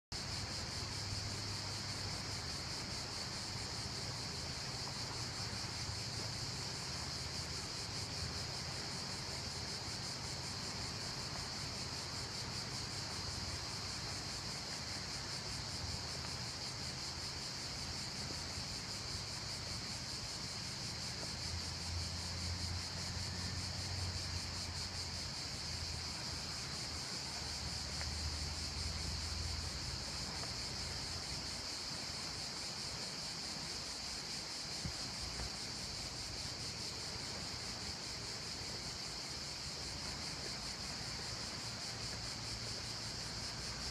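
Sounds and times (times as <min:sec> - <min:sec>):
cicadas shrilling: 0:00.2 - 0:43.9.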